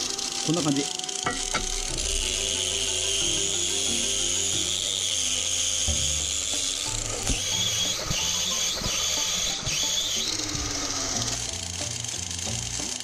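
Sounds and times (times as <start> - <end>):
angle grinder motor whine: 0.0 - 13.0
background music: 0.0 - 13.0.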